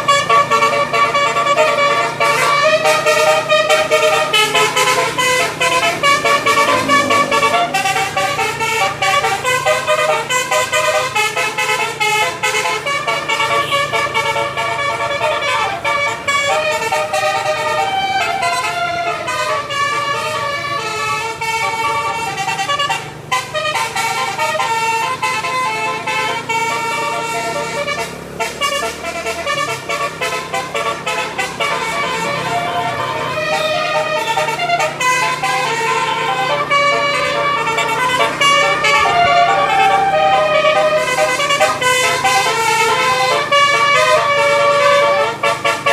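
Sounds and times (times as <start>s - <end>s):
multi-tone bus horn tune: 0.0s - 45.9s.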